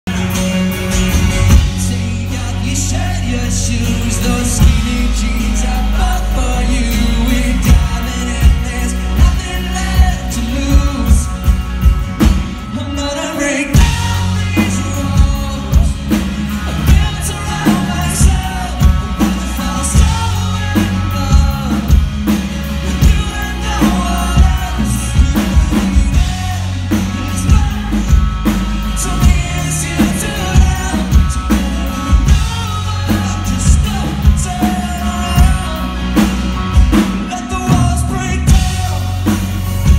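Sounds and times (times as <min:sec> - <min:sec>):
acoustic guitar: 0:00.0 - 0:39.9
bass guitar: 0:00.0 - 0:39.9
drum kit beat: 0:00.1 - 0:39.9
man singing: 0:01.5 - 0:39.9.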